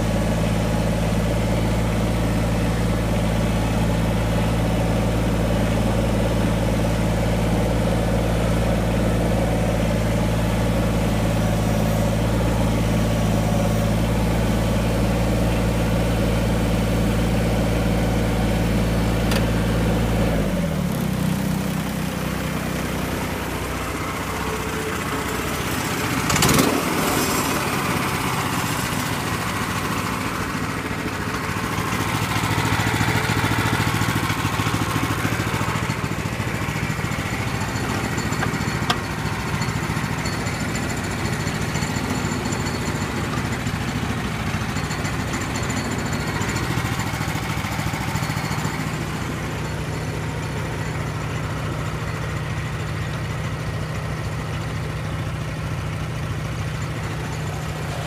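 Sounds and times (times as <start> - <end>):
small engine idling: 0.0 - 58.0.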